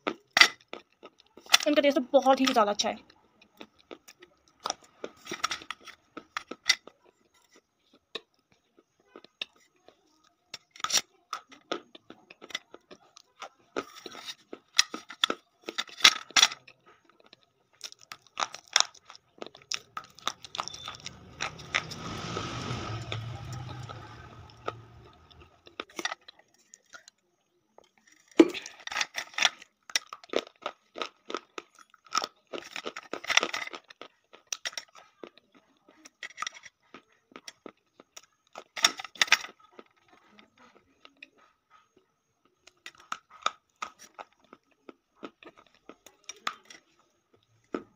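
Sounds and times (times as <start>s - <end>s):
chalk crunching and chewing: 0.0s - 1.7s, 2.4s - 47.9s.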